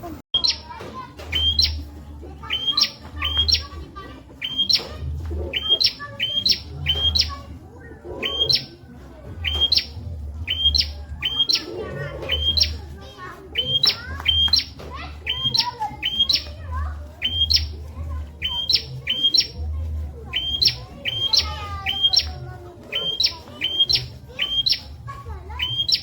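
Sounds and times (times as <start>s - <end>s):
bird chirping: 0.4s - 3.8s, 4.4s - 13.0s, 13.6s - 26.0s.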